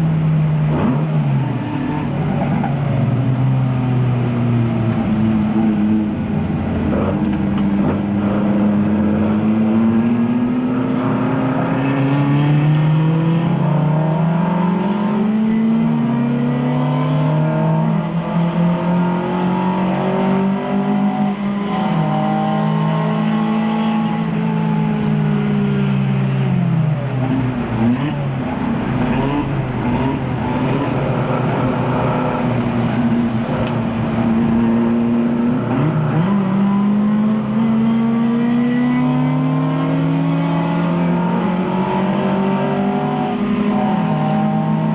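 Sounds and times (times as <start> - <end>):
racing car engine revving: 0.0 - 44.9.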